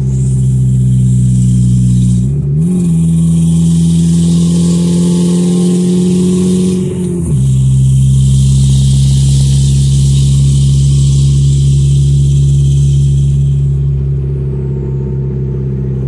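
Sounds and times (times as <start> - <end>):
car engine droning loudly: 0.0 - 16.0.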